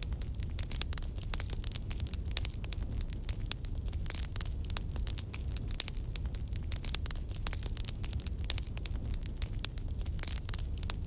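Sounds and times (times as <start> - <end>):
fire crackling: 0.0 - 11.0.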